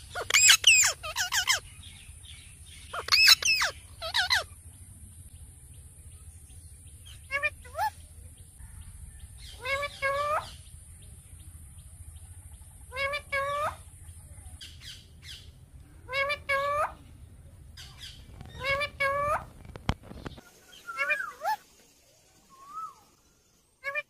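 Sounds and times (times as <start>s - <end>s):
parakeets calling: 0.0s - 21.8s.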